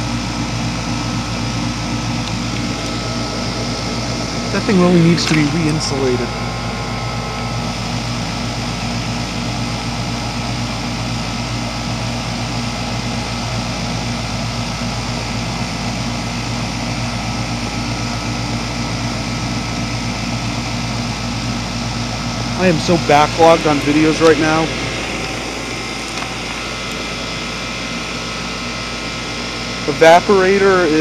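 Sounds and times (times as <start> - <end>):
heat pump humming: 0.0 - 31.0.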